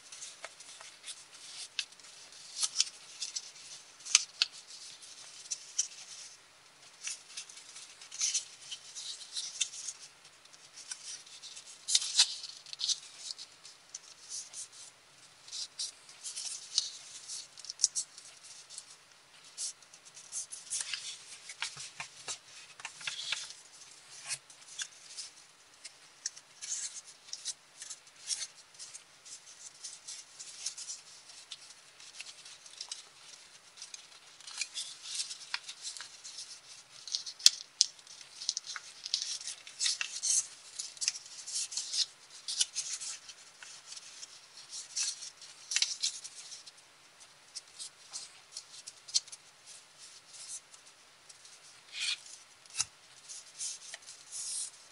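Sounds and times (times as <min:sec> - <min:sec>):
paper rustling and crackling: 0:00.0 - 0:54.9.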